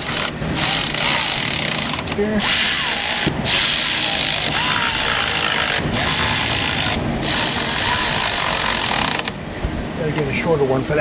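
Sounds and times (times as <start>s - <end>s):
power ratchet hissing: 0.0s - 9.3s.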